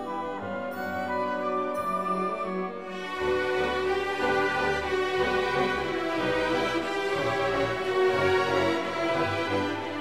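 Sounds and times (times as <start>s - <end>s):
orchestral music with strings: 0.0s - 10.0s.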